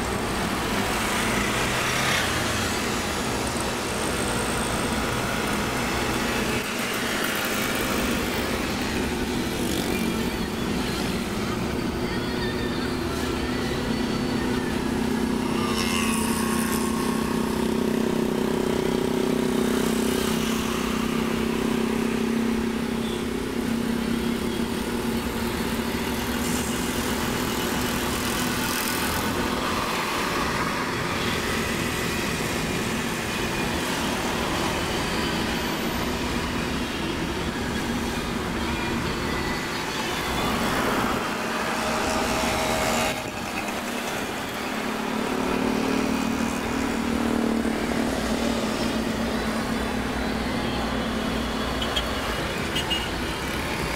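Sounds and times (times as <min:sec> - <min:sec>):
car engine and road noise: 0:00.0 - 0:53.9
passing cars and motorcycles: 0:00.0 - 0:53.9.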